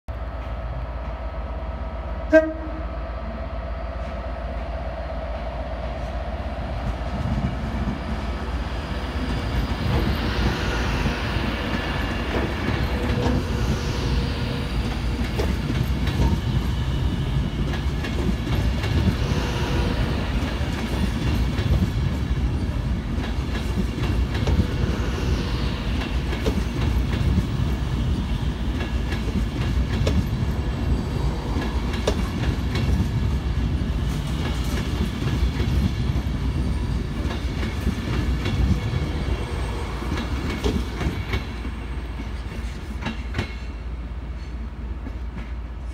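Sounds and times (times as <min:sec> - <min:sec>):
electric train rolling rumble: 0:00.1 - 0:45.9.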